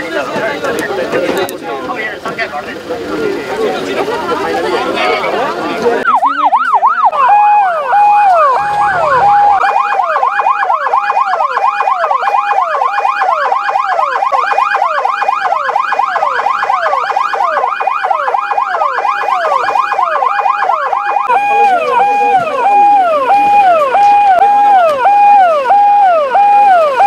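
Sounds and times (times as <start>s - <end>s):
ambulance sirens wailing: 0.2s - 27.0s.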